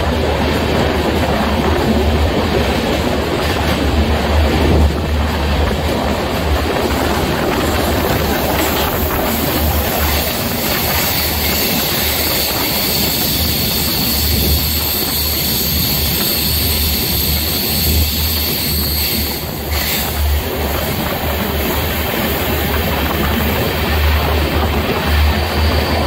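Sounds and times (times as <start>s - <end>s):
train rumbling in tunnel: 0.0s - 26.0s.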